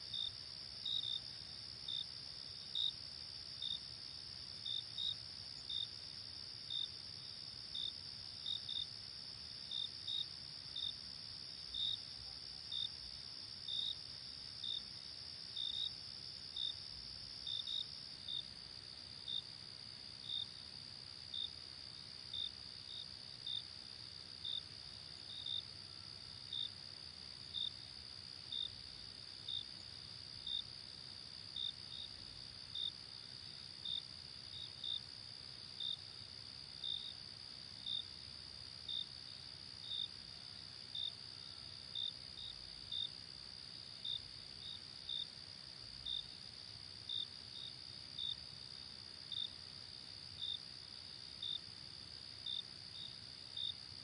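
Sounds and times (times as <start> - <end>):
cricket chirps: 0.0 - 54.0.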